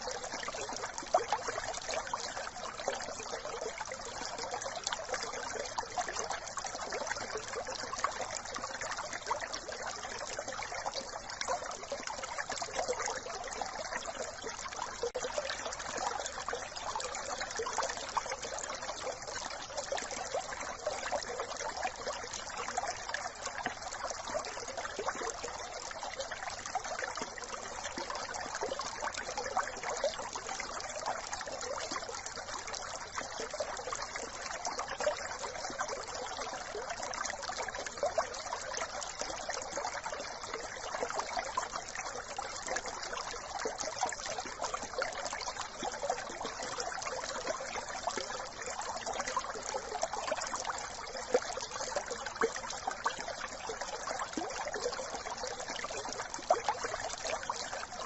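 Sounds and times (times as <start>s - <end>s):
brook babbling: 0.0s - 58.0s.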